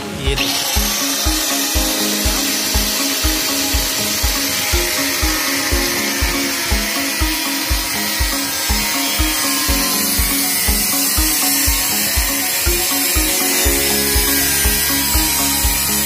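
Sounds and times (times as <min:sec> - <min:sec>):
background music with beat: 0:00.0 - 0:16.0
high-pitched power tool cutting: 0:00.0 - 0:16.0.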